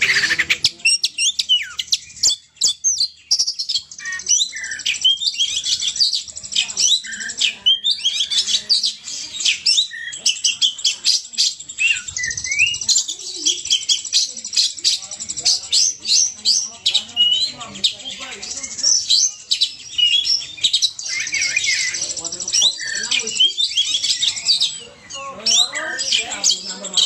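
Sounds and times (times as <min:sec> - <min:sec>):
magpie-robin singing: 0:00.0 - 0:27.0.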